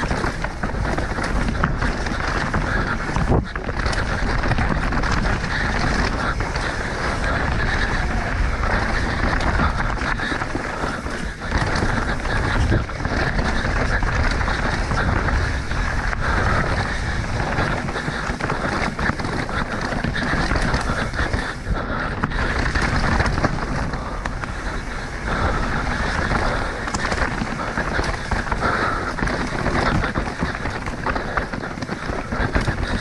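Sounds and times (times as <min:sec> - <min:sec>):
bike rattling over bumps: 0:00.0 - 0:33.0
tyres on dirt: 0:00.0 - 0:33.0
wind rushing over microphone: 0:00.0 - 0:33.0.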